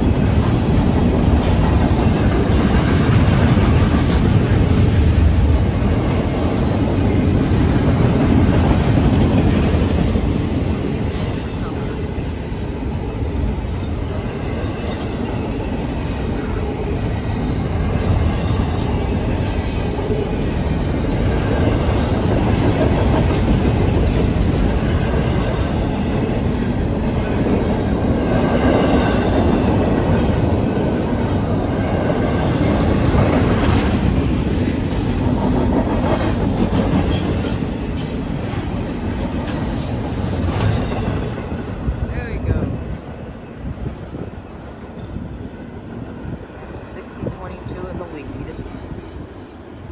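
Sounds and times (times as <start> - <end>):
clickety-clack over rail joints: 0.0 - 12.1, 14.5 - 42.7
steel wheels rumbling on rail: 0.0 - 49.9.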